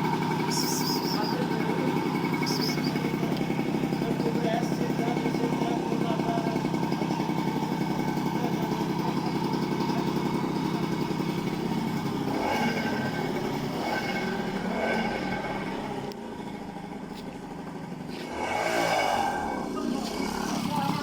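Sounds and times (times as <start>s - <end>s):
outdoor noise: 0.0s - 21.0s
vehicle engine running: 0.0s - 21.0s.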